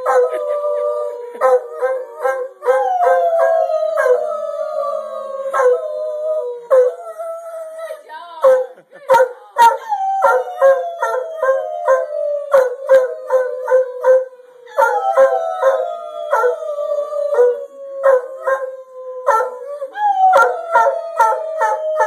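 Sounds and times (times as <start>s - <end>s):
dog howling: 0.0s - 8.0s, 9.6s - 22.0s.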